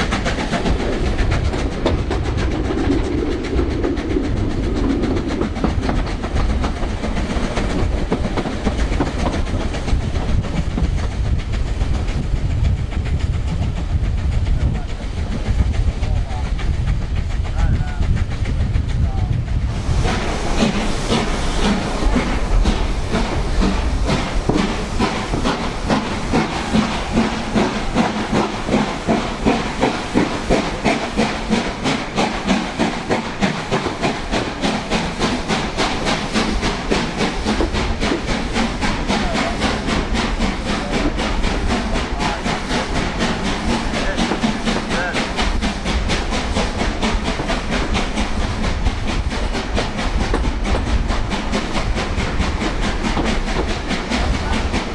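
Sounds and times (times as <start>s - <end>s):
steam hissing: 0.0s - 54.9s
steam locomotive chuffing: 0.0s - 54.9s.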